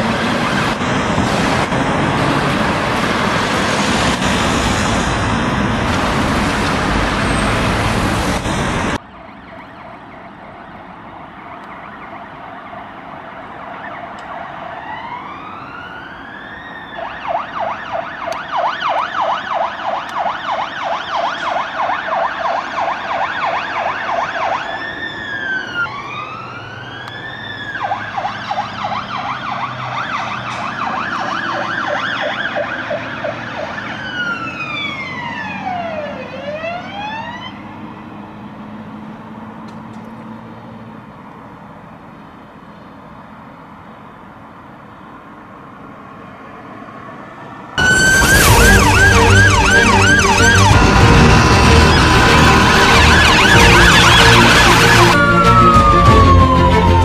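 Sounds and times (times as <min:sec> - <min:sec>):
fire engine siren: 0:00.0 - 0:39.0, 0:46.2 - 0:57.0.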